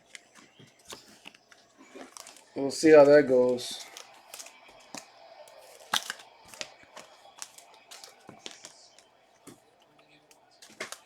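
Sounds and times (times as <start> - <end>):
pack wrappers rustling: 0.0 - 9.6, 10.3 - 11.0
trading cards clicking and snapping: 0.0 - 11.0.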